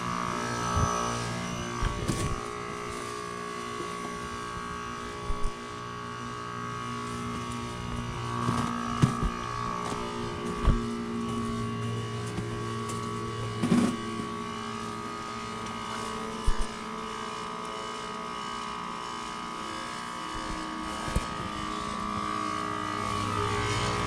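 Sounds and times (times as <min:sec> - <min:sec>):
heat pump humming and whining: 0:00.0 - 0:24.0.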